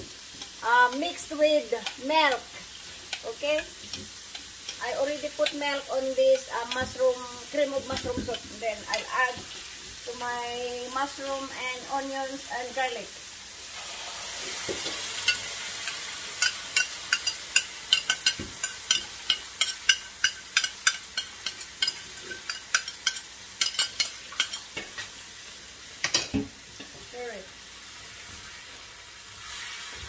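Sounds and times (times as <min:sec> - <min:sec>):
vegetables sizzling in a frying pan: 0:00.0 - 0:30.0.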